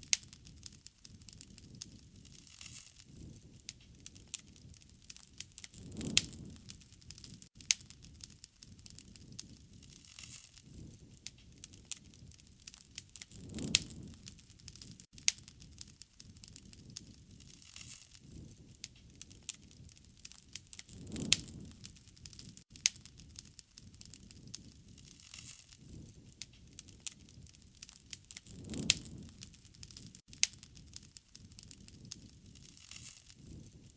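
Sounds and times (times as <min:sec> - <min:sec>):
low rumble of burning: 0:00.0 - 0:33.9
wood fire crackling and popping: 0:00.0 - 0:33.9.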